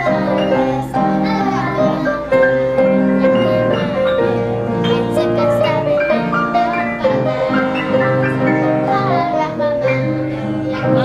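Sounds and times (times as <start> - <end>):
piano melody with bass line: 0.0 - 11.0.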